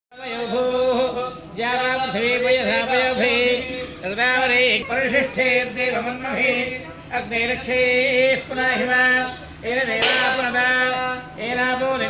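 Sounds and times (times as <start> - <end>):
man chanting: 0.1 - 12.0.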